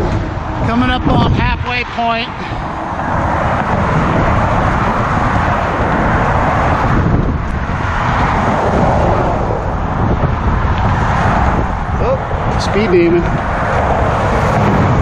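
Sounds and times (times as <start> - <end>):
low rumble: 0.0 - 15.0
traffic passing: 0.0 - 15.0.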